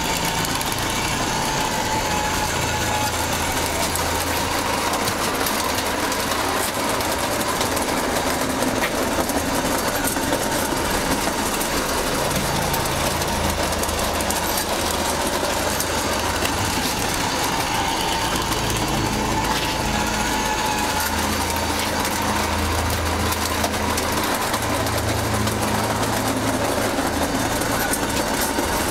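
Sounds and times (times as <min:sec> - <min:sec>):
model train whirring: 0:00.0 - 0:28.9
wheels rattling on rails: 0:00.0 - 0:28.9.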